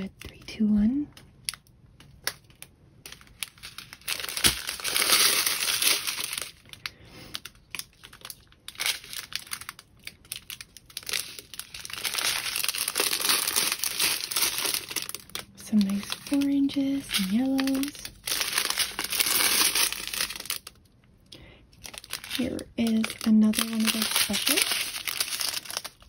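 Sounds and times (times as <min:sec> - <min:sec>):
plastic bags crinkling: 0:01.4 - 0:26.0.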